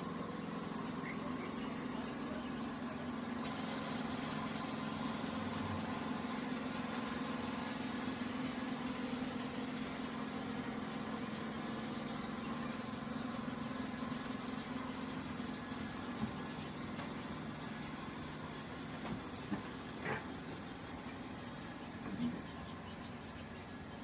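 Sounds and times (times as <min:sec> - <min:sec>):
locomotive machinery hum: 0:00.0 - 0:24.0.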